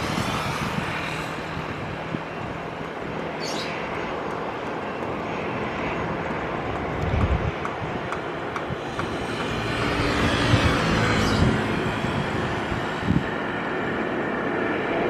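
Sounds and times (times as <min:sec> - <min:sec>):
jet engine noise: 0:00.0 - 0:15.0.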